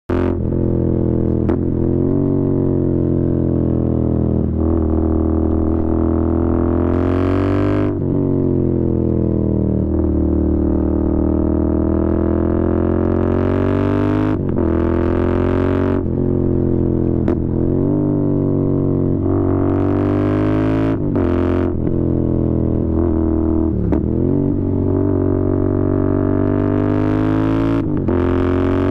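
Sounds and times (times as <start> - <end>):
motorcycle engine droning: 0.1 - 28.9.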